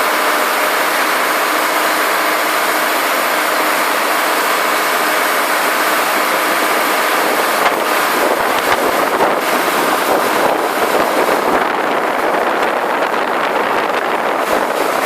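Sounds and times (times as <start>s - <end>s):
drill rig rushing noise: 0.0s - 15.0s.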